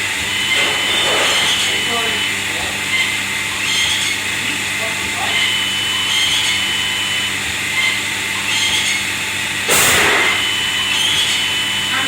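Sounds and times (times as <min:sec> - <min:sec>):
machine humming and whining: 0:00.0 - 0:12.0.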